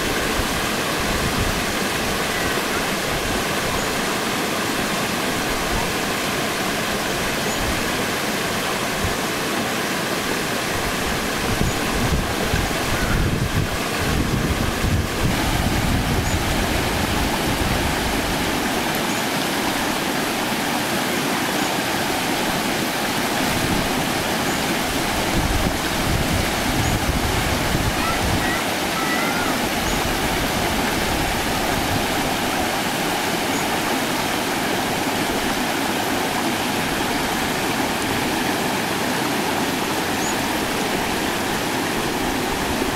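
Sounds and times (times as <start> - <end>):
stream rushing over stones: 0.0 - 42.9.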